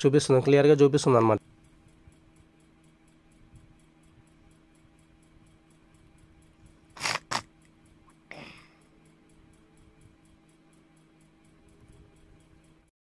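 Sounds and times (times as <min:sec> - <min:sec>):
faint rapid ticking: 0:00.0 - 0:12.9
room hum: 0:00.0 - 0:12.9.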